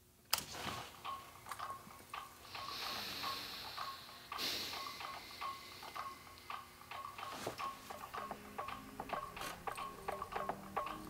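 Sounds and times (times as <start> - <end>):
tinny music from headphones: 0.0 - 11.0.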